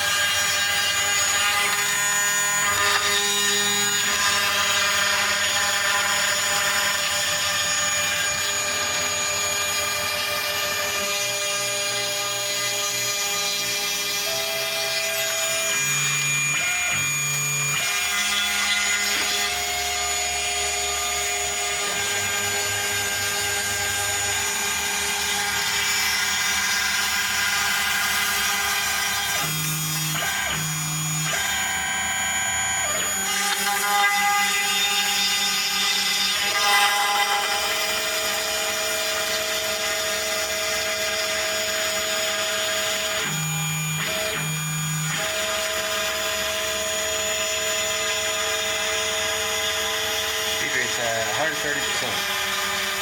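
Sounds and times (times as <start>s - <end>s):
router spindle high whine: 0.0s - 53.0s.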